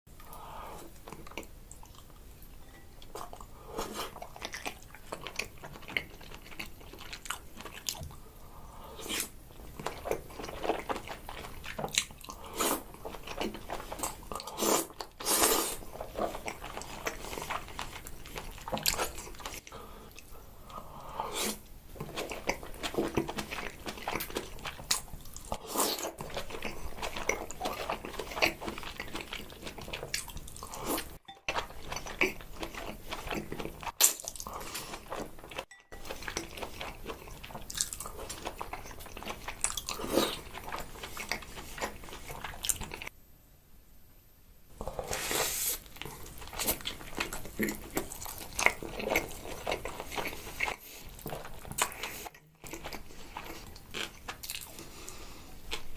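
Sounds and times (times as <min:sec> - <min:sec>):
chewing and mouth clicks: 0:00.2 - 0:02.3, 0:03.0 - 0:08.3, 0:09.0 - 0:20.4, 0:22.0 - 0:43.1, 0:45.9 - 0:55.9.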